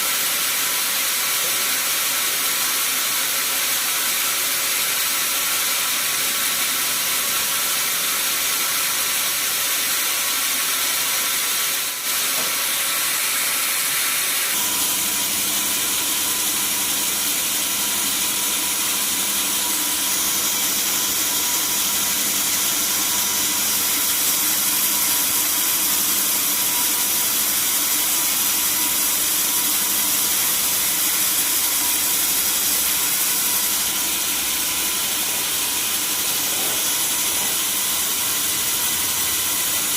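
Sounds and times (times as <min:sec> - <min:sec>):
sawmill saw hiss and whine: 0:00.0 - 0:39.9.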